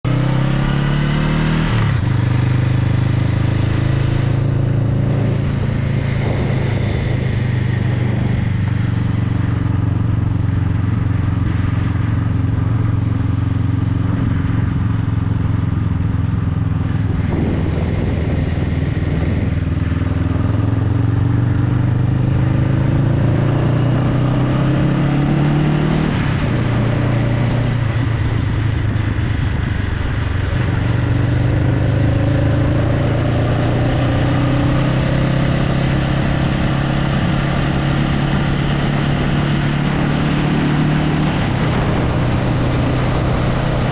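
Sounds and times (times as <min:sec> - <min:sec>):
motorcycle engine shifting gears: 0:00.1 - 0:43.9.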